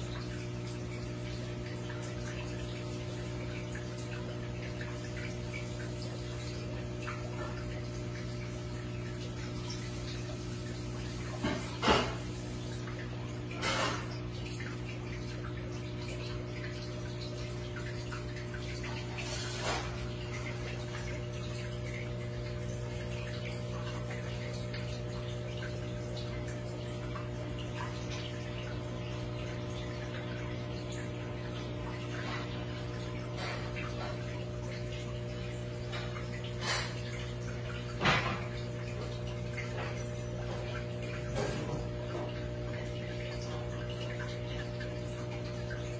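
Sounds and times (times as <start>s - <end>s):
aquarium filter pump humming: 0.0s - 45.9s
water trickling: 0.0s - 45.9s.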